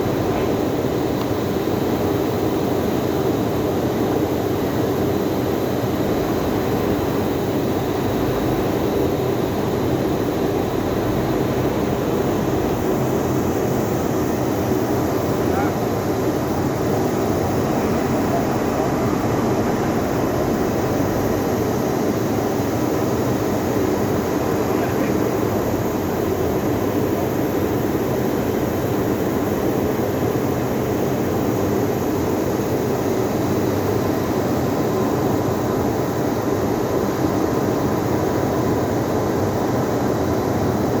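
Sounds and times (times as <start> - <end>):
steam boiler plant running: 0.0 - 41.0.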